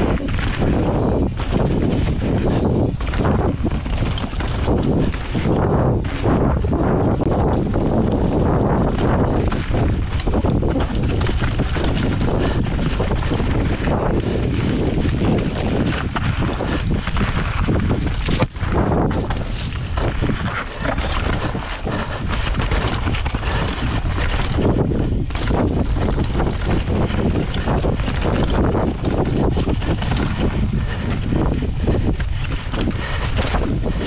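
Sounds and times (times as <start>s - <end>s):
bike knocks and rattles: 0.0s - 34.0s
bike tyre noise: 0.0s - 34.0s
wind rushing on microphone: 0.0s - 34.0s.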